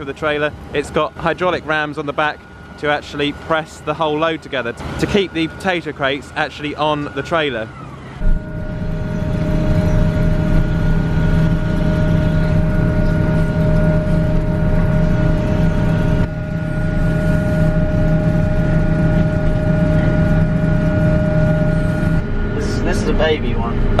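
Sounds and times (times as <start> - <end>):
constant high whine: 0.0 - 24.0
harvester engine drone: 0.0 - 24.0.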